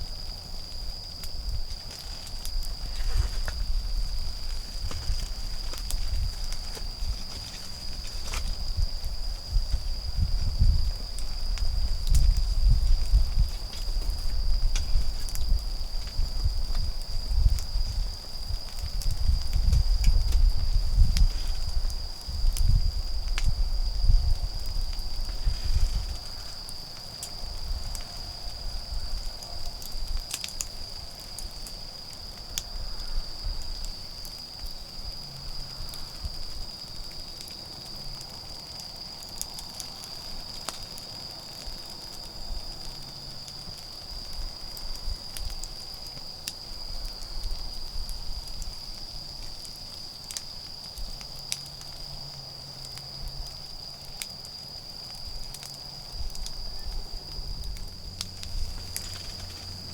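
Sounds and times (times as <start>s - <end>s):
insects trilling: 0.0s - 59.9s
wood fire crackling and popping: 0.0s - 59.9s.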